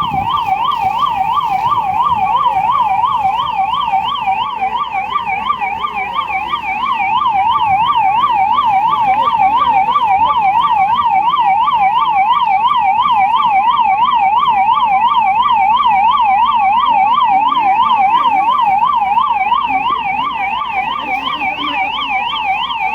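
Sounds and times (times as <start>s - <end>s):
emergency siren yelping: 0.0s - 22.9s.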